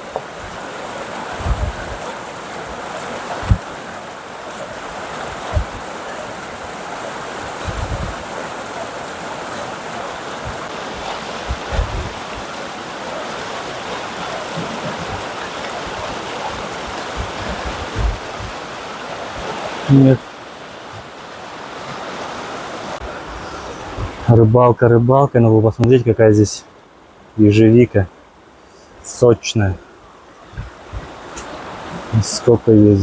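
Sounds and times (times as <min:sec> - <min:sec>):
river rushing over its bed: 0:00.0 - 0:33.0.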